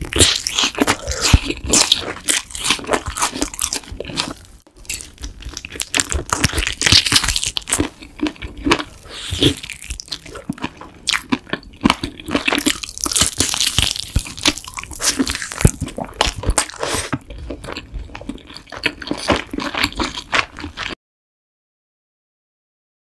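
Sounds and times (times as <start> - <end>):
chewing crunchy chicken: 0.0 - 21.0.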